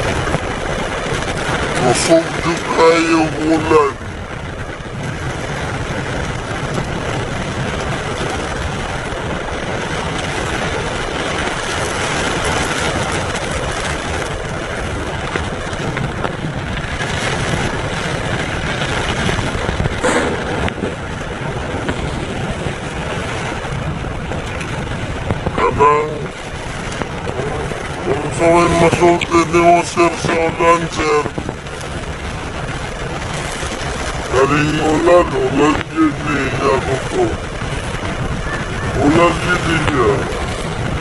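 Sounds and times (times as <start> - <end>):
heavy rain on a car: 0.0 - 41.0
tyre noise on wet road: 0.0 - 41.0.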